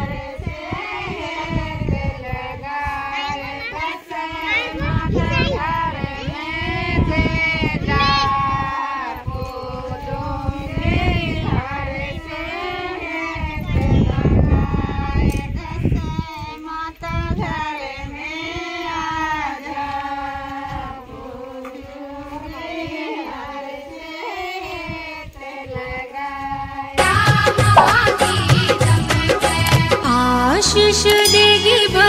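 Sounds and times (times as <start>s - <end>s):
women singing folk song: 0.0s - 32.0s.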